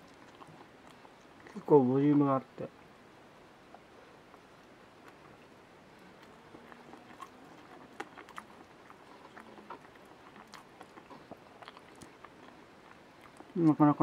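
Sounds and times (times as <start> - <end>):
chewing: 0.0 - 1.9, 3.6 - 14.0.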